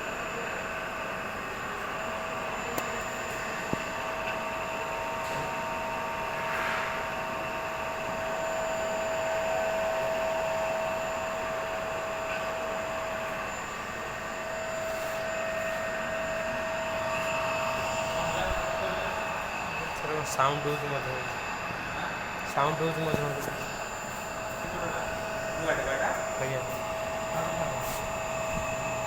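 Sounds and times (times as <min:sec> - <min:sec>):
rushing fan-like noise: 0:00.0 - 0:29.0.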